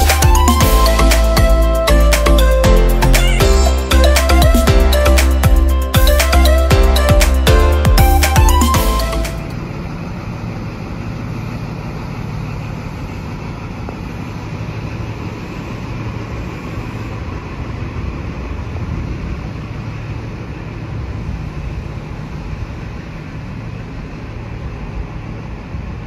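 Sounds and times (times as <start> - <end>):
diesel train engine droning: 0.0 - 26.0.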